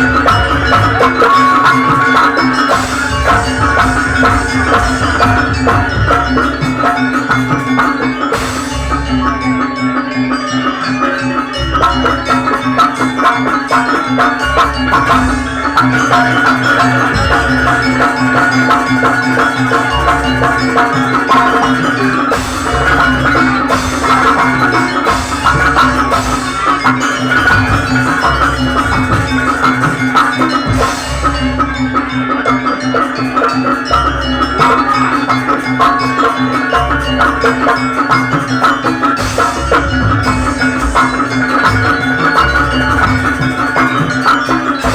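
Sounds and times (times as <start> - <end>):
drum strokes: 0.0 - 44.9
mallet percussion ensemble: 0.0 - 44.9
steady held tone: 0.0 - 44.9.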